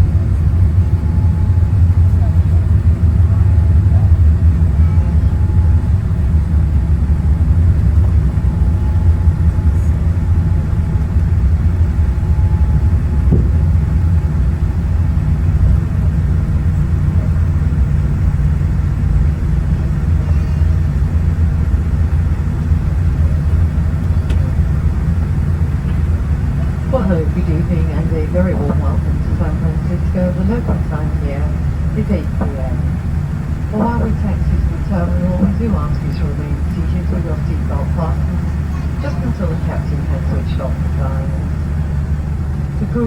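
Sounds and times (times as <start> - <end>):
aircraft cabin rumble: 0.0 - 43.0.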